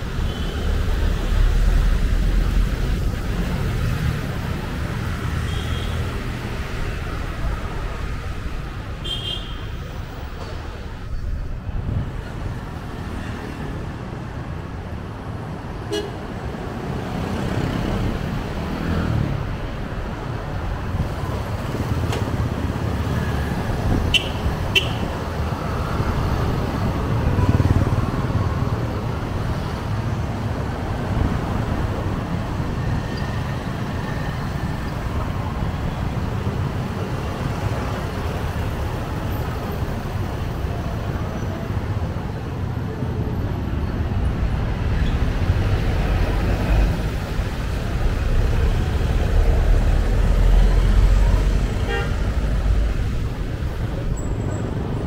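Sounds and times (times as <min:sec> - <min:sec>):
traffic engines rumbling: 0:00.0 - 0:55.0.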